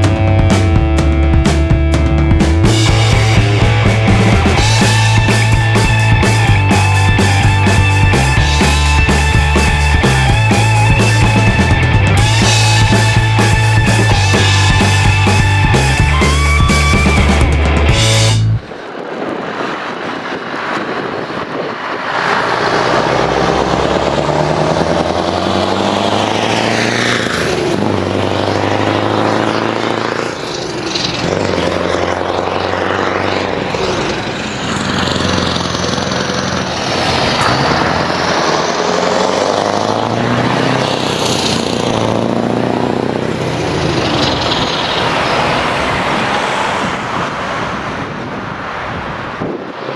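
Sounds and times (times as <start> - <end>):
truck engine revving under load: 0.0 - 18.8, 22.1 - 48.2.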